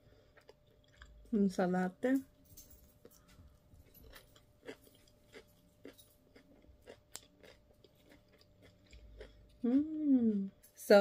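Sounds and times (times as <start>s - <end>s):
chewing crunchy salad: 0.0s - 2.0s, 3.0s - 10.9s.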